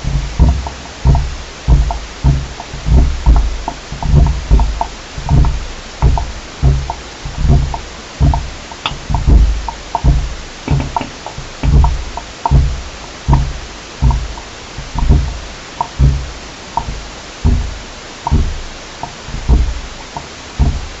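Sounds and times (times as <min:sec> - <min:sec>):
rhythmic low thumping: 0:00.0 - 0:21.0
steady hiss: 0:00.0 - 0:21.0.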